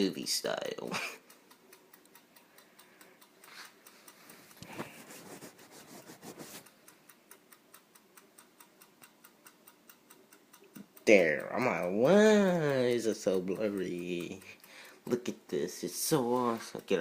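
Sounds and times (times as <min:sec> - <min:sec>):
microwave timer ticking: 0:00.0 - 0:05.7, 0:06.4 - 0:17.0.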